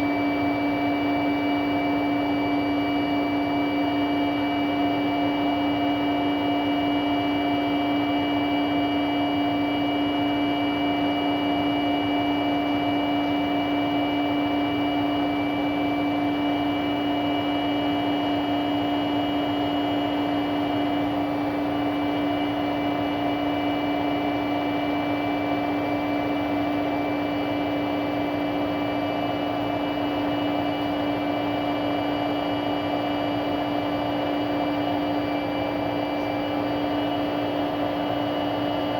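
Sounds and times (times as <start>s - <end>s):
washing machine drone: 0.0s - 38.9s.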